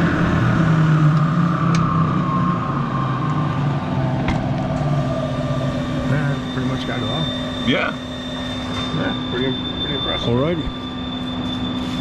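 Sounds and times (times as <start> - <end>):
mixer whine winding down: 0.0 - 12.0.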